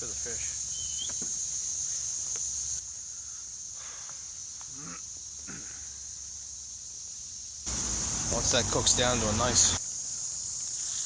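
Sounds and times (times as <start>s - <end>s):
insects chirping drone: 0.0s - 11.0s.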